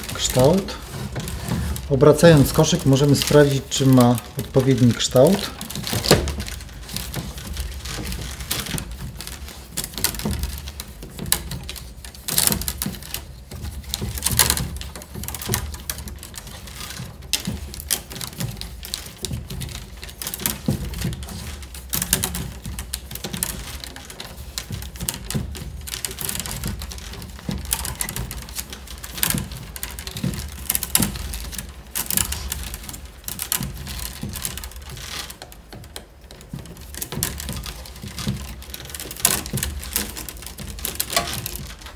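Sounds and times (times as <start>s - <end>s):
wicker rods clicking and tapping: 0.0s - 41.9s.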